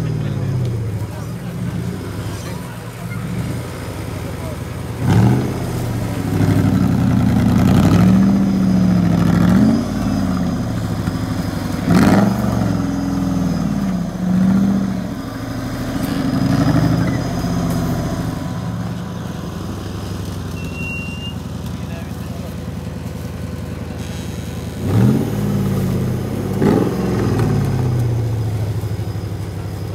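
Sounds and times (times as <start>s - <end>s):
buggy engine revving: 0.0s - 29.9s.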